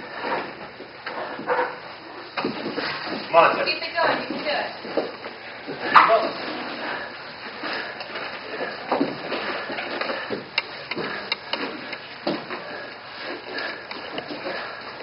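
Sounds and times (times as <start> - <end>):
scuffling on foam mats: 2.3 - 14.8.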